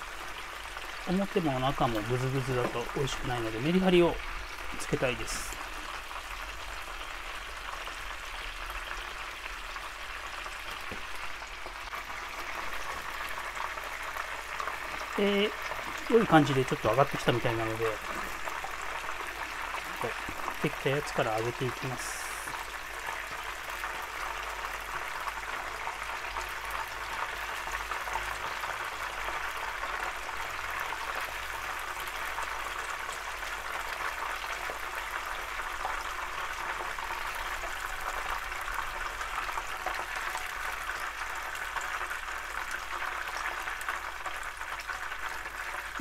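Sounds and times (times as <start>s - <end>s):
oil sizzling in a frying pan: 0.0s - 46.0s.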